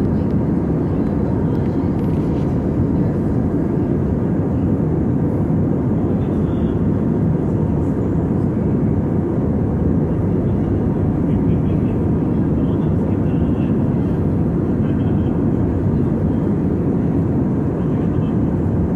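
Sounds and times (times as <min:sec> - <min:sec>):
airliner cabin engine rumble: 0:00.0 - 0:18.9.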